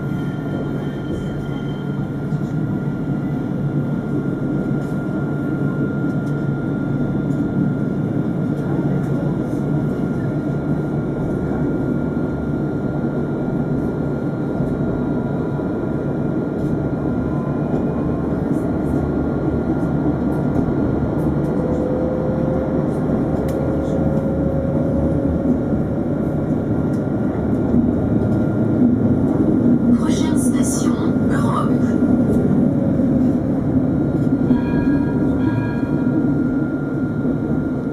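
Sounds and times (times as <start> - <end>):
tram rumbling: 0.0 - 37.9.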